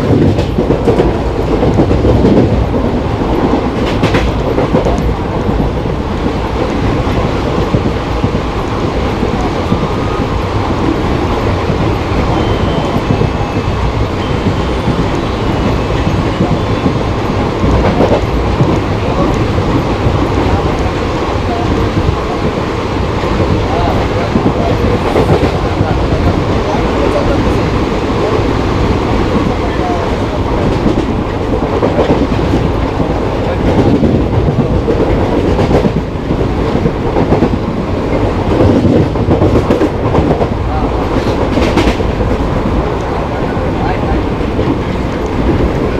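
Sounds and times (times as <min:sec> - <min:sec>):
train rumbling along track: 0:00.0 - 0:45.9.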